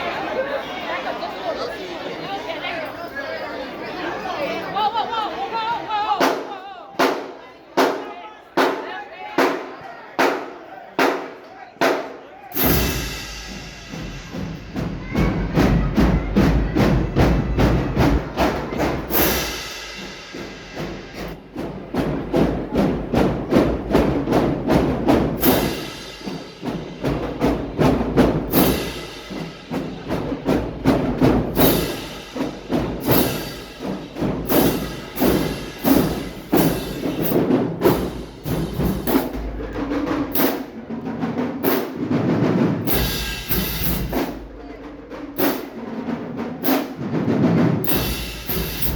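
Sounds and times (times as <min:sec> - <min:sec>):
marching band playing: 0:03.8 - 0:48.9
sharp drum and rim hits: 0:06.2 - 0:40.9, 0:41.5 - 0:48.9.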